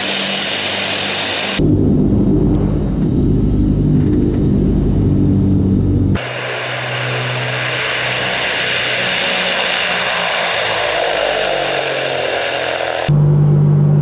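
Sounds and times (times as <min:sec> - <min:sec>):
propeller drone inside aircraft: 0:00.0 - 0:14.0
turboprop aircraft taking off: 0:00.0 - 0:14.0.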